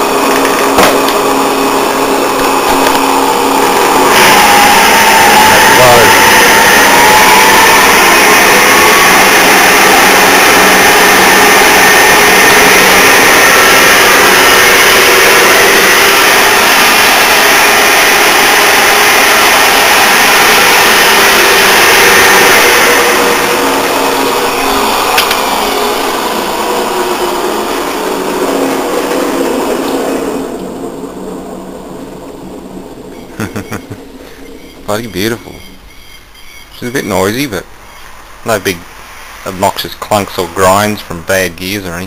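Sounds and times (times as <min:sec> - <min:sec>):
lathe running: 0:00.0 - 0:37.8.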